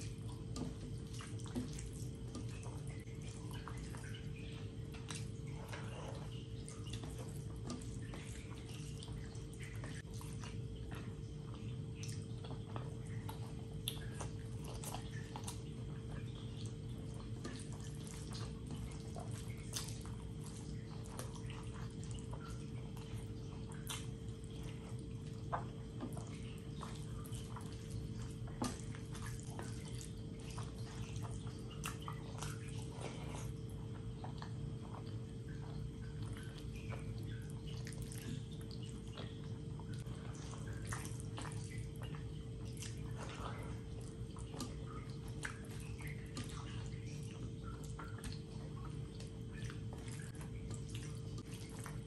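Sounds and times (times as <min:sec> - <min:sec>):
steady low hum: 0:00.0 - 0:52.0
wet chewing and lip-smacking: 0:00.0 - 0:52.0.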